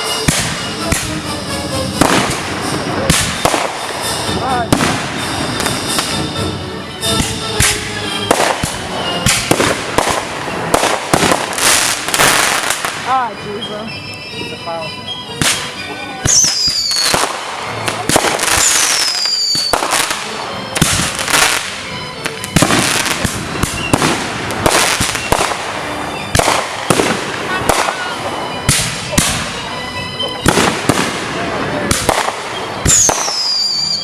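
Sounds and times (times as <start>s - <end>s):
fireworks bangs and crackling: 0.0s - 13.8s, 14.7s - 34.0s
falling firework whistles: 2.0s - 13.1s, 15.3s - 34.0s.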